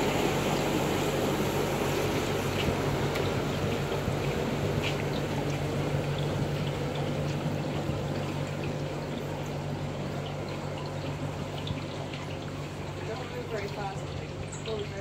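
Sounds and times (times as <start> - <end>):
low steady hum: 0.0 - 15.0
small water splashes: 0.0 - 15.0
water trickling and gurgling: 0.0 - 15.0.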